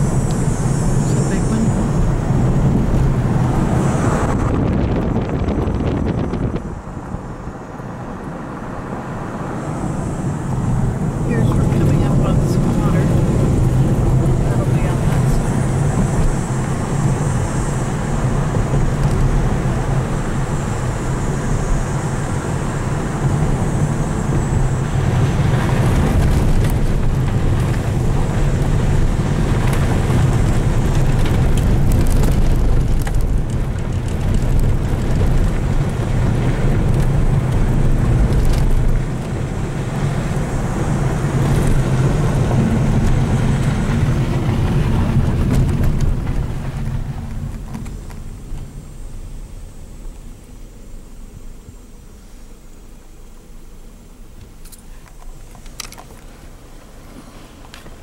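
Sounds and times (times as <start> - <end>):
car driving on gravel: 0.0 - 58.0.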